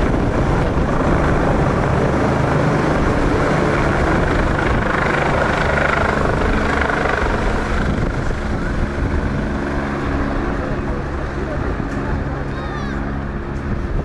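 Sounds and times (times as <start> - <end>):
helicopter flying overhead: 0.0 - 14.0.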